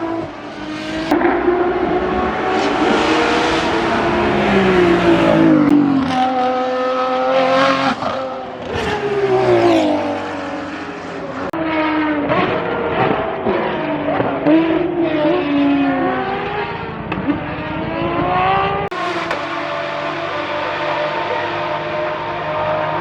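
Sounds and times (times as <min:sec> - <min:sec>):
engine revving and downshifting: 0:00.0 - 0:23.0.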